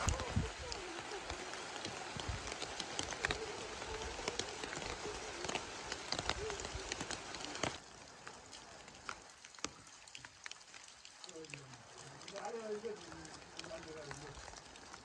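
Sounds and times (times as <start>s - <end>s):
rain falling on hard surfaces: 0.0s - 15.0s.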